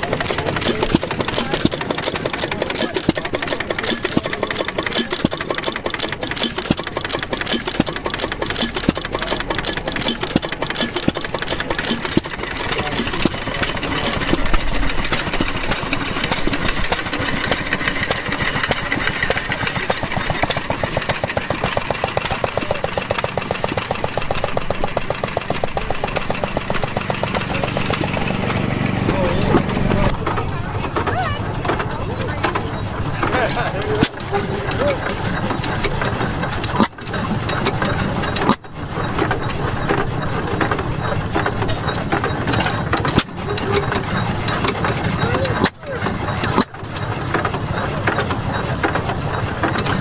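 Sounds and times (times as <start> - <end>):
gas engine running: 0.0 - 50.0.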